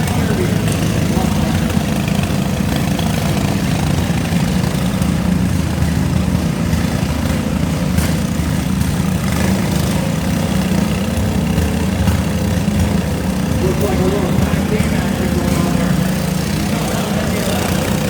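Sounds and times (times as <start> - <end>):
riding lawn mower engines: 0.0 - 18.0.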